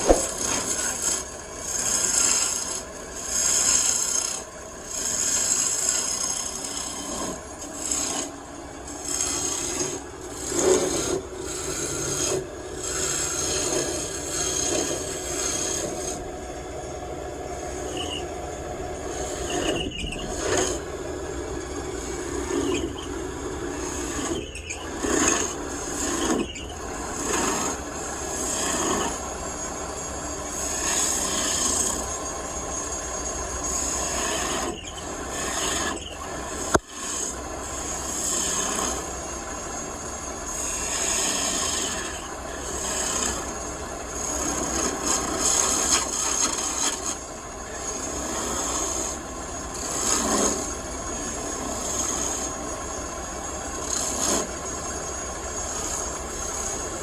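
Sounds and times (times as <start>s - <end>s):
hand tool scraping turning wood: 0.0s - 16.3s, 17.7s - 18.3s, 19.0s - 57.0s
wood lathe spinning: 0.0s - 57.0s.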